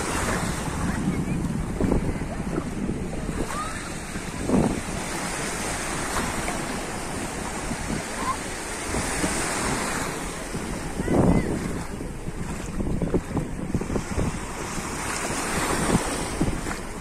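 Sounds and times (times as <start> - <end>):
small waves breaking on shore: 0.0 - 17.0
wind buffeting microphone: 0.0 - 17.0.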